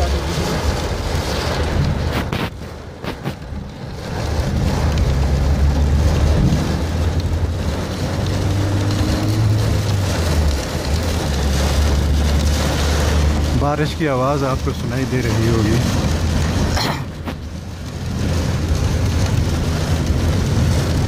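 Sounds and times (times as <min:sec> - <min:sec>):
engine and tyres rumbling: 0:00.0 - 0:21.0
heavy rain on vehicle: 0:00.0 - 0:21.0.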